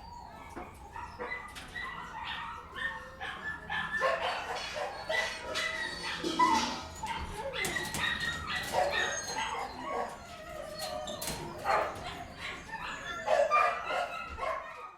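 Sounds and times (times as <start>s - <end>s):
dogs barking and yelping: 0.0s - 14.9s
dogs whimpering: 0.0s - 14.9s.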